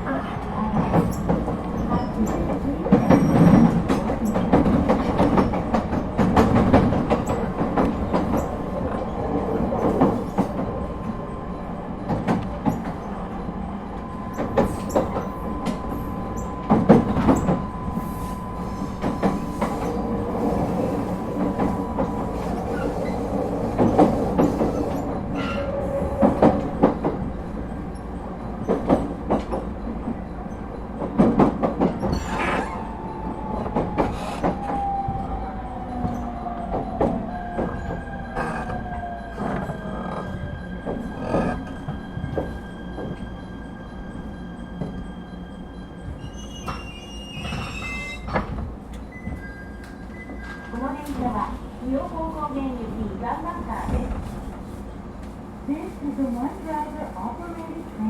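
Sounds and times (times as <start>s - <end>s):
train running rumble: 0.0s - 58.0s
rail-joint clicks and knocks: 0.1s - 55.5s.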